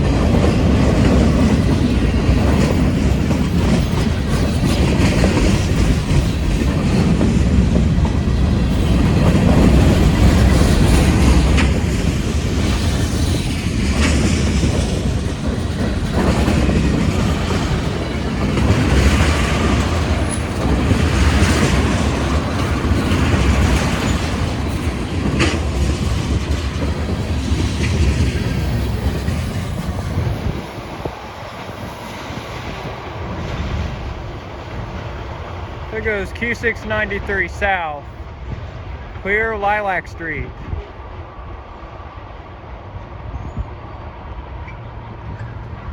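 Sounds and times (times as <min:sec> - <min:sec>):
freight train rumbling on rails: 0:00.0 - 0:45.9.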